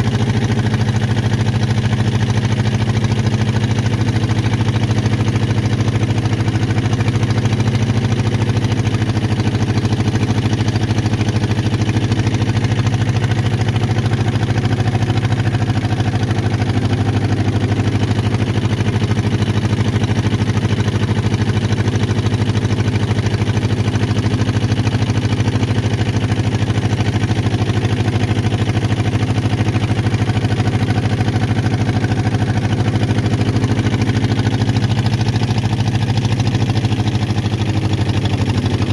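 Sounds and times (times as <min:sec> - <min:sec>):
small boat engine droning: 0:00.0 - 0:38.9.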